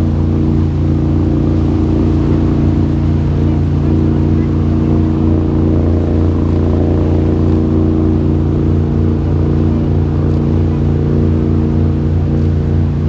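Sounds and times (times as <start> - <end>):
boat engine low hum: 0.0 - 13.0.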